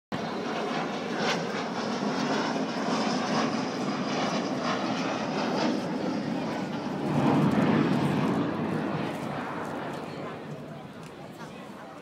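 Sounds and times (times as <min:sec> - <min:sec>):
jet aircraft flying overhead: 0:00.1 - 0:12.0.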